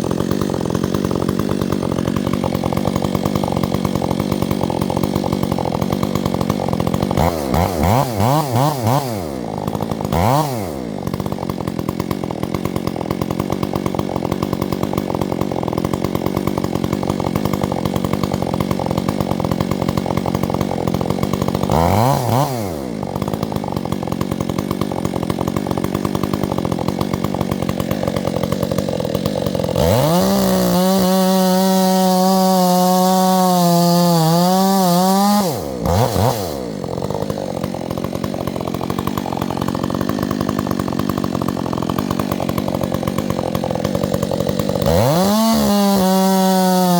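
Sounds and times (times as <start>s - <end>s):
chainsaw idling and revving: 0.0s - 46.9s.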